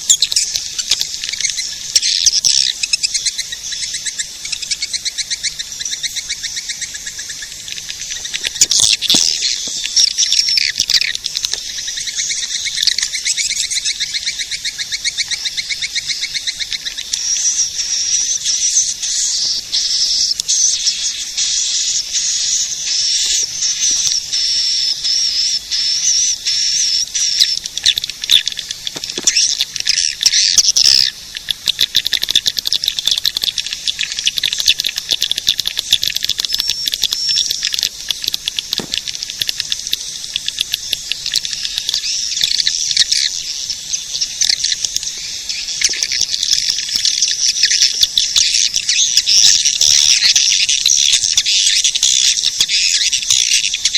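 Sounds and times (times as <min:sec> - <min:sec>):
swiftlets chirping and twittering: 0:00.0 - 0:53.9.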